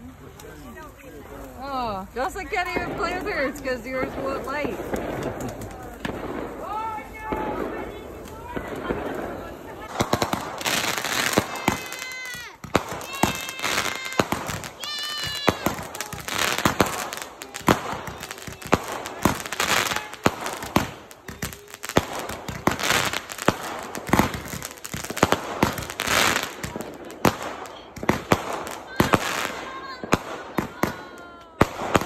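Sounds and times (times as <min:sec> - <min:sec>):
fireworks bangs and crackling: 0:00.0 - 0:32.0
high-pitched fireworks wails: 0:02.4 - 0:32.0.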